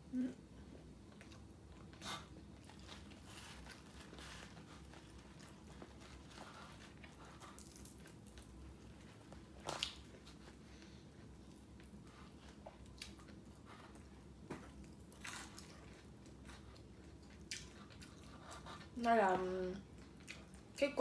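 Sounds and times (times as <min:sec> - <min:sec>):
chewing crispy chicken skin: 0:01.1 - 0:21.0.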